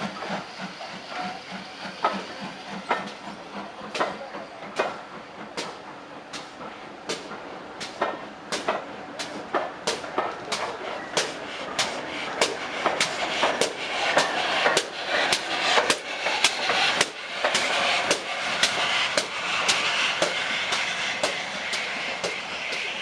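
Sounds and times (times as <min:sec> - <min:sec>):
train running hiss: 0:00.0 - 0:23.0
train wheels clicking over rail joints: 0:00.0 - 0:23.0.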